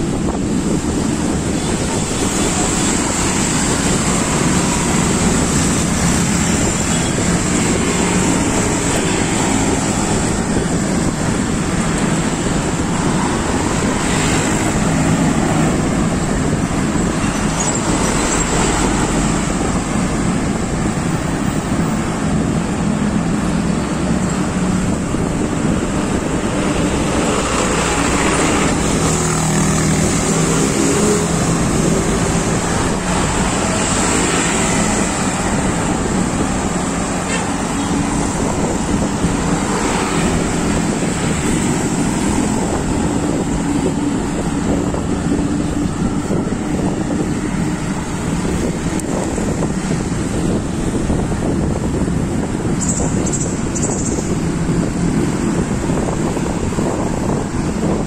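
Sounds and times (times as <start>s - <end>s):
road traffic: 0.0s - 58.0s
wind over microphone: 0.0s - 58.0s.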